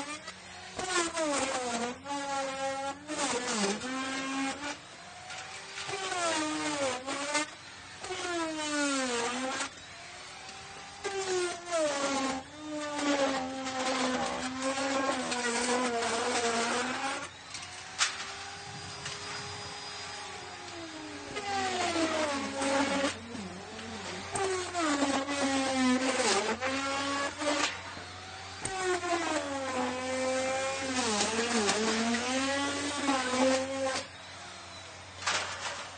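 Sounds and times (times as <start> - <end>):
electric router cutting wood: 0.0 - 35.9.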